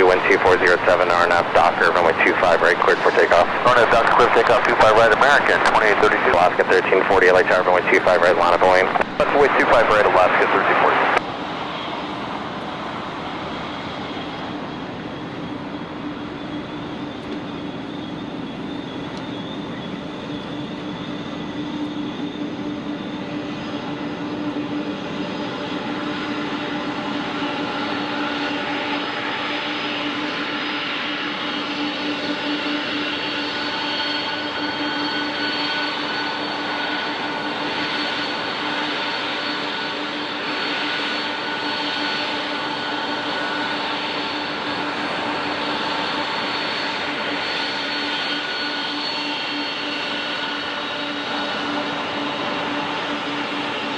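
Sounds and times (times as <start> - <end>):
jet engines whining: 0.0 - 53.9.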